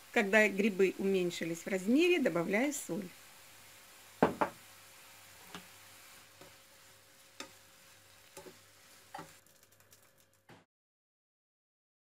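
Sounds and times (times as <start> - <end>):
mushrooms sizzling in a pan: 0.0 - 10.4.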